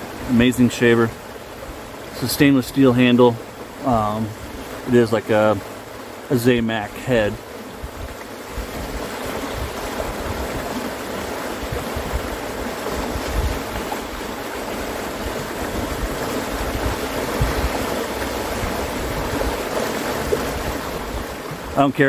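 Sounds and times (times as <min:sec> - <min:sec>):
river water rushing over rapids: 0:00.0 - 0:22.0.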